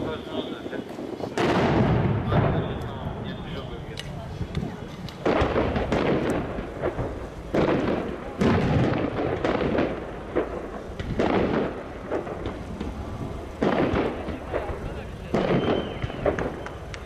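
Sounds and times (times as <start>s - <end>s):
fireworks crackling: 0.0s - 17.0s
fireworks deep booms: 0.0s - 17.0s.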